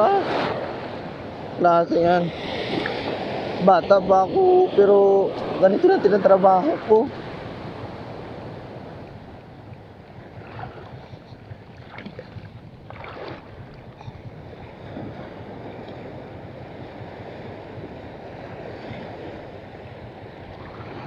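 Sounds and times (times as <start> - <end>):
sea water washing along shore: 0.0 - 21.0
wind on microphone: 0.0 - 21.0.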